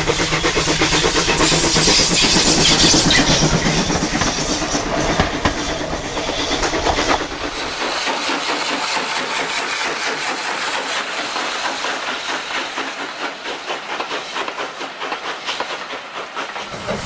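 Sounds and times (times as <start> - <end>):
model train running past: 0.0 - 17.0.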